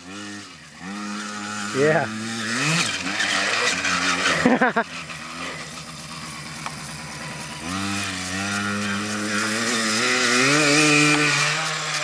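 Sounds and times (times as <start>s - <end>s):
motocross bike engine: 0.0s - 12.0s.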